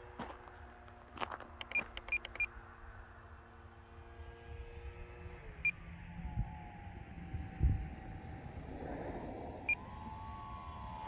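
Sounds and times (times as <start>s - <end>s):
distant model plane motor droning: 0.0s - 11.0s.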